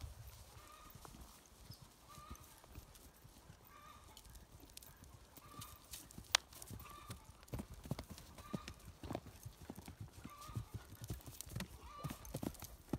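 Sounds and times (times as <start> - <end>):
horse hoofbeats cantering on grass: 0.0 - 12.9.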